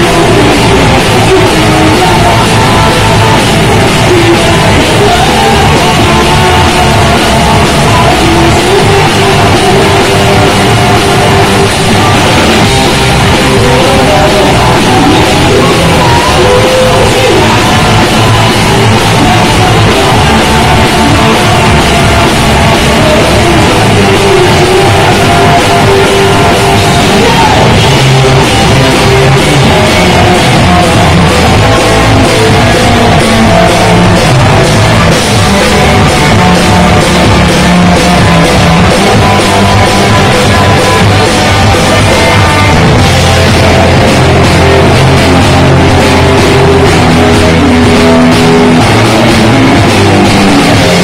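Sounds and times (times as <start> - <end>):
drum kit: 0.0 - 51.0
electric bass: 0.0 - 51.0
electric guitars: 0.0 - 51.0.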